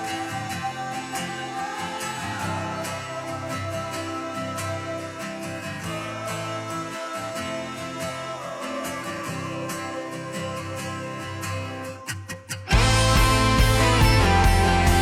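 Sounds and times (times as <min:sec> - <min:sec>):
country acoustic guitar music: 0:00.0 - 0:15.0.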